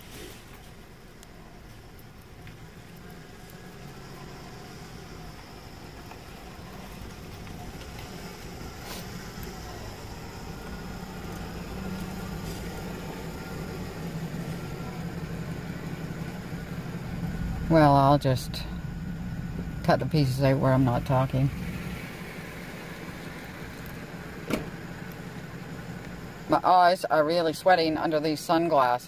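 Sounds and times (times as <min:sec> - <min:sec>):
vehicle engine hum: 0:00.0 - 0:29.0.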